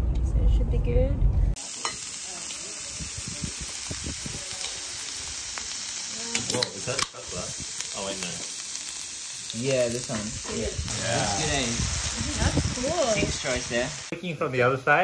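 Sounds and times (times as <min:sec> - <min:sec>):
beef sizzling on grill pan: 0:01.6 - 0:14.2.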